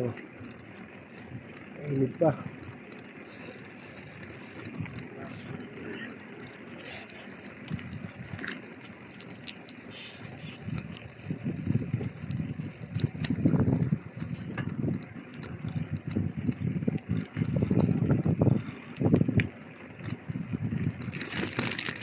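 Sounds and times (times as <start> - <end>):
bicycle parts clicking and rattling: 0.0 - 22.0.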